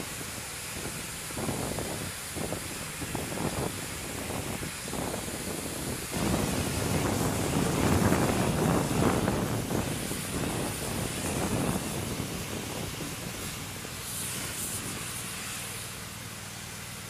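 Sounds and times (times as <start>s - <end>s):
pressure washer spray hissing: 0.0s - 17.0s.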